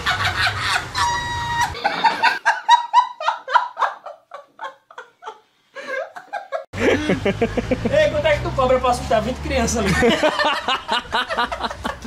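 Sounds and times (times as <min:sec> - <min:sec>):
men laughing hard: 0:00.0 - 0:07.9, 0:09.8 - 0:12.0
background noise: 0:00.0 - 0:12.0.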